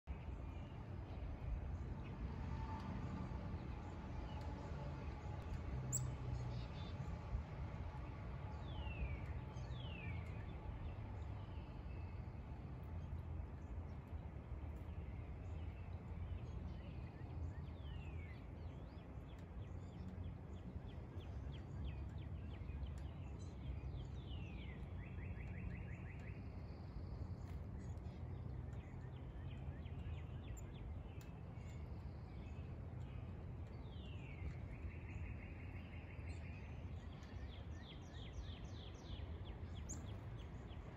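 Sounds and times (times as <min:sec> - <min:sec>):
low outdoor rumble: 0:00.1 - 0:40.9.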